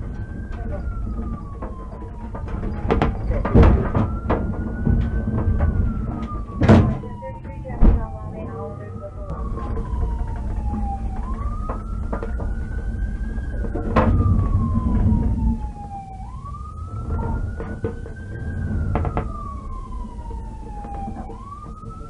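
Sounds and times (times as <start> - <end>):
police siren wailing: 0.0 - 22.0.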